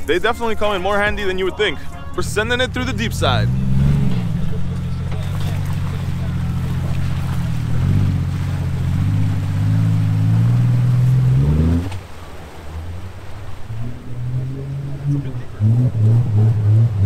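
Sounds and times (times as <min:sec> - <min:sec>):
car engine revving: 0:00.9 - 0:17.0.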